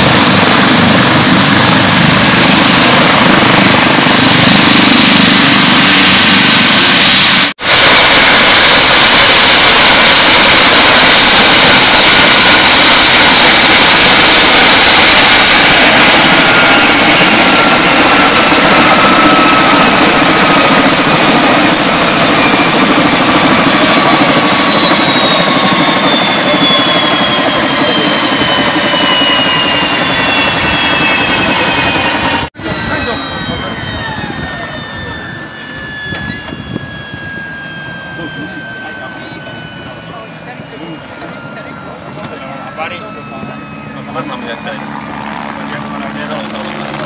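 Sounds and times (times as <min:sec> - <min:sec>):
engine whines falling in pitch: 0:00.0 - 0:47.0
helicopter turbine and rotor noise: 0:00.0 - 0:47.0.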